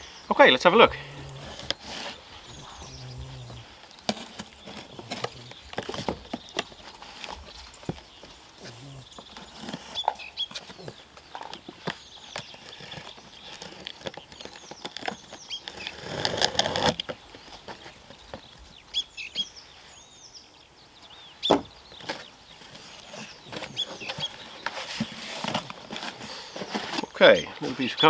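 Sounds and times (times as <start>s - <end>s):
small birds chirping: 0.0s - 28.0s
cardboard box being opened: 0.9s - 18.6s, 22.0s - 27.9s.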